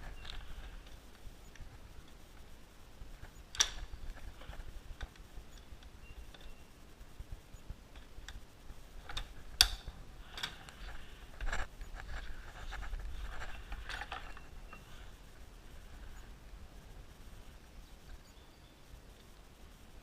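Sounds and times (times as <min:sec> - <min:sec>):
soft rustling: 0:00.0 - 0:18.3.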